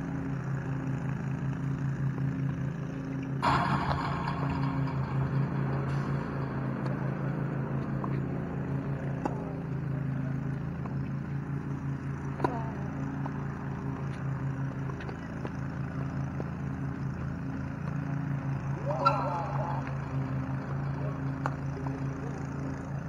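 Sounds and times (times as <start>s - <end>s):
low pulsing hum: 0.0s - 23.0s.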